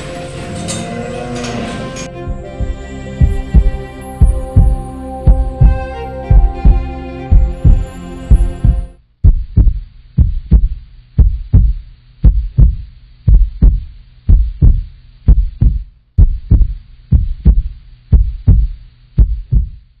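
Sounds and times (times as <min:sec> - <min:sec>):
low steady hum: 0:00.0 - 0:20.0
heartbeat double thump: 0:02.3 - 0:19.8.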